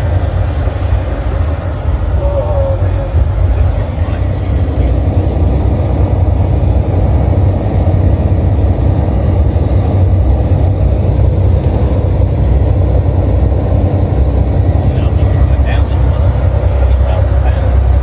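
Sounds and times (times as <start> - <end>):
truck engine rumble inside cab: 0.0 - 18.0.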